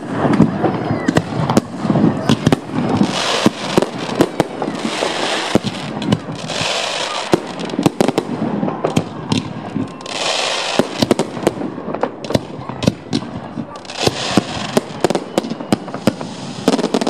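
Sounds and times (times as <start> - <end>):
fireworks bangs: 0.0 - 17.0
fireworks hissing crackle: 0.0 - 17.0.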